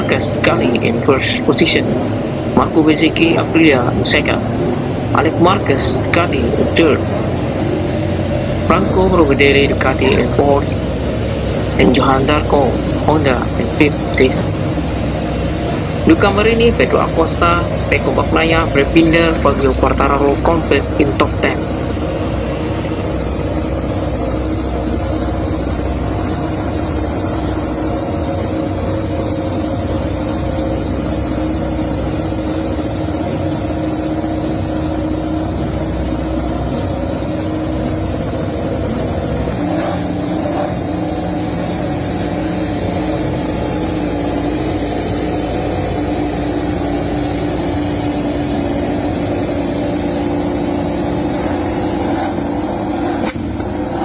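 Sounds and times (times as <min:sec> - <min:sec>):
racing motorcycle engines: 0:00.0 - 0:54.0.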